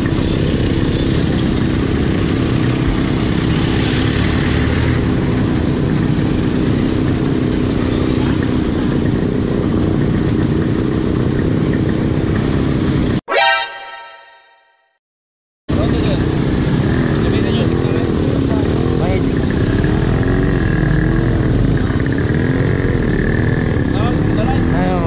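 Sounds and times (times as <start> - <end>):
street traffic passing: 0.0 - 14.1, 15.7 - 25.0.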